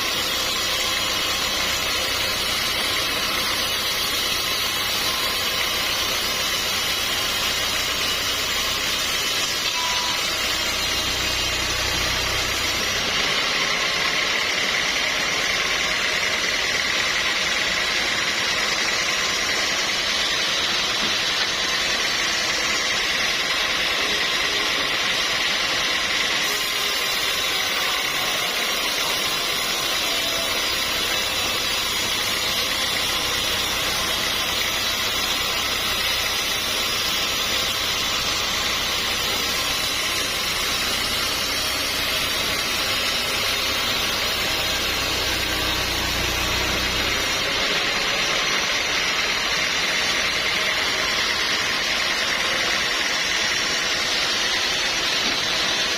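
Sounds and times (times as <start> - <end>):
sawmill machinery whirring: 0.0 - 55.9.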